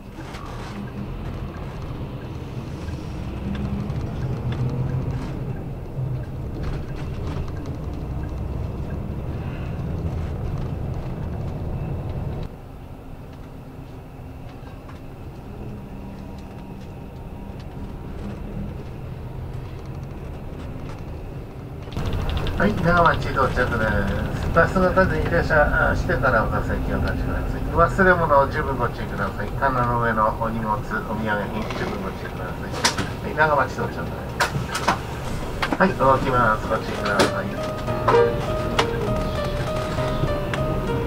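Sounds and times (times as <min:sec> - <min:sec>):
coach engine and road noise: 0:00.0 - 0:41.0.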